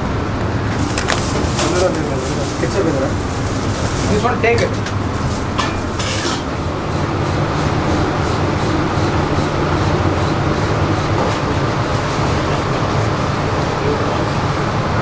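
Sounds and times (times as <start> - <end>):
kitchen background rumble: 0.0 - 15.0.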